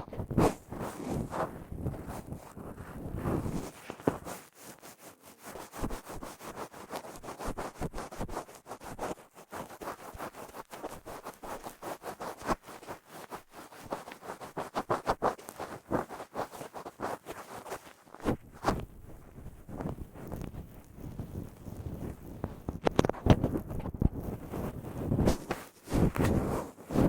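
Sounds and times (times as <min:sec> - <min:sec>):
scratching and rubbing on microphone: 0:00.0 - 0:27.0.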